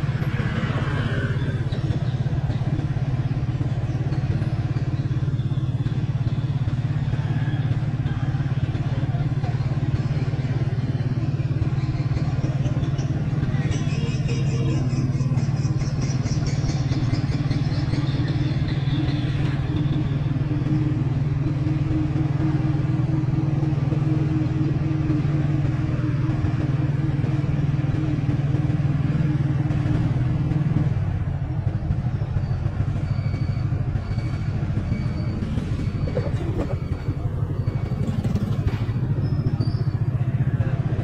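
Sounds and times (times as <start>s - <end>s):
motorbike engine running: 0.0s - 41.0s
road noise: 0.0s - 41.0s.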